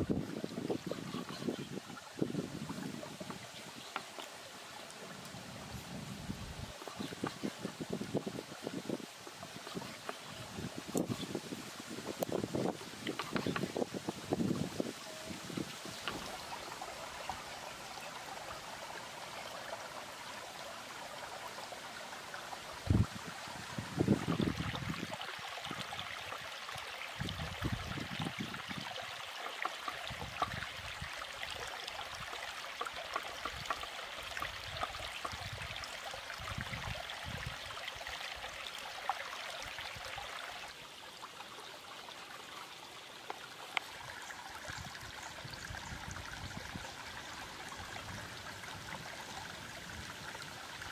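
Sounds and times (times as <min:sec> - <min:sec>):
stream running: 0:00.0 - 0:50.9.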